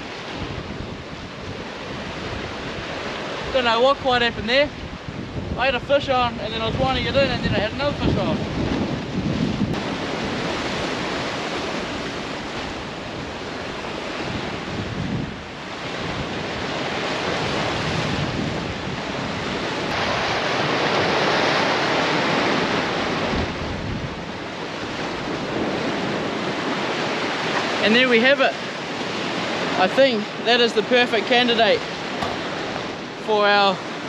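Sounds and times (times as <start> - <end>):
sea surf breaking over rocks: 0.0 - 34.0
wind on microphone: 0.0 - 34.0.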